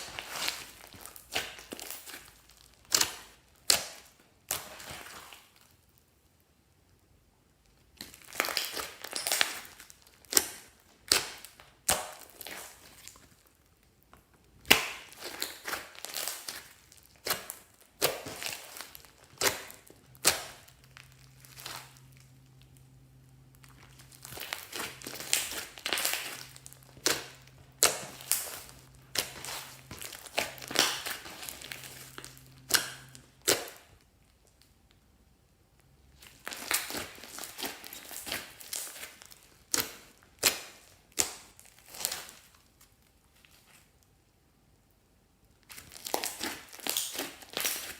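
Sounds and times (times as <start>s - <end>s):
slime squishing and popping: 0.0s - 5.9s, 7.6s - 34.9s, 36.1s - 43.1s, 45.6s - 47.9s.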